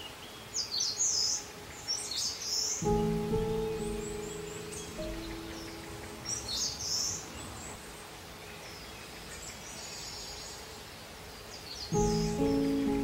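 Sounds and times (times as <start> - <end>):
birds chirping: 0.0 - 10.8, 11.4 - 13.0
outdoor hiss: 0.0 - 13.0.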